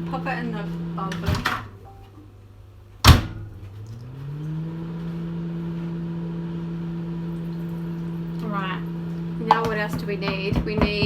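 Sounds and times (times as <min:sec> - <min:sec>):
electric motor hum: 0:00.0 - 0:01.7, 0:03.4 - 0:10.9.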